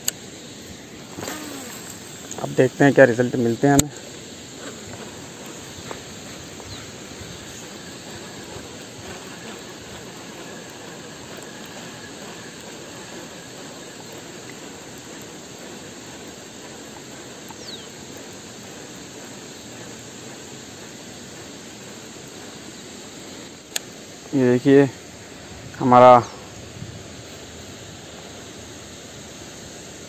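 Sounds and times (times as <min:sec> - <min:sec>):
rushing hiss of outdoor noise: 0:00.0 - 0:30.0.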